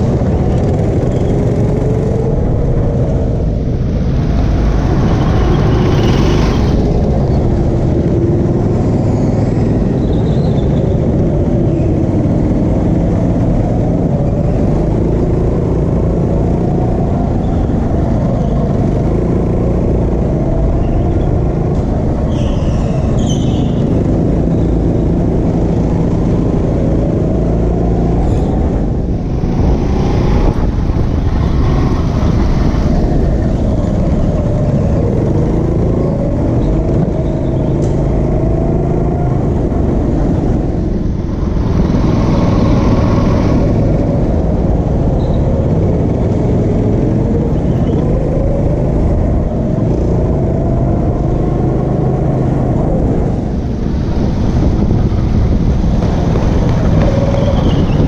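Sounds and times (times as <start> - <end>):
heavy low rumble: 0.0 - 58.0.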